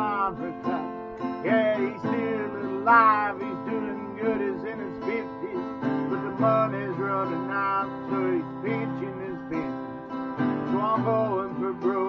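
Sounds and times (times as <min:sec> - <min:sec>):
acoustic guitar country tune: 0:00.0 - 0:12.0.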